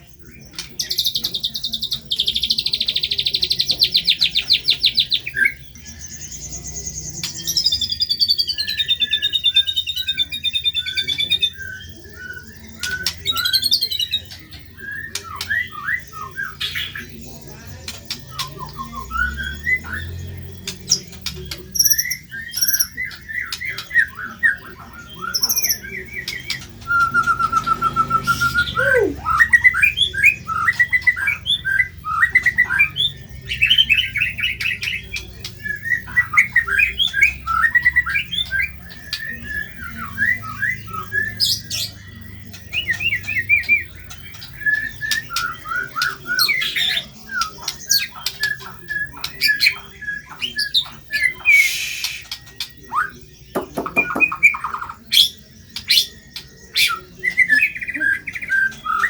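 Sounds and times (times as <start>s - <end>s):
bird singing whistles and chatter: 0.0s - 59.0s.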